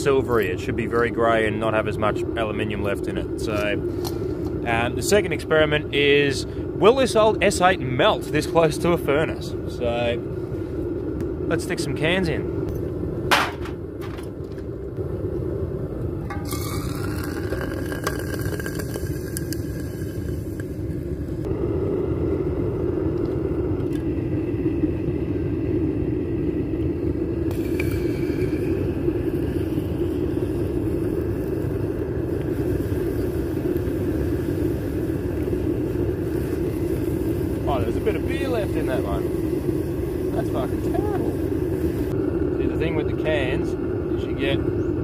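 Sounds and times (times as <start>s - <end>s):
gas burner flame rushing: 0.0s - 45.0s.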